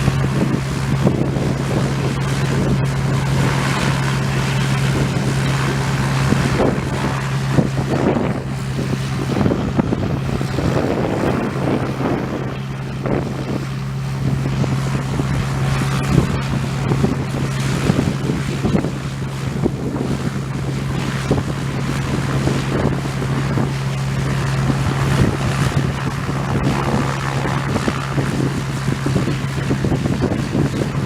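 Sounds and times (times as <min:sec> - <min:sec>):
aircraft engine running: 0:00.0 - 0:31.0
wind on microphone: 0:00.0 - 0:31.0.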